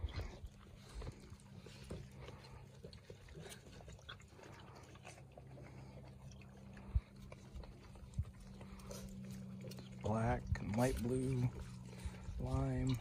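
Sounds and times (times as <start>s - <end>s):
puppies drinking from a metal waterer: 0.0s - 13.0s
puppies scampering on concrete: 0.0s - 13.0s
steady low hum: 0.0s - 13.0s.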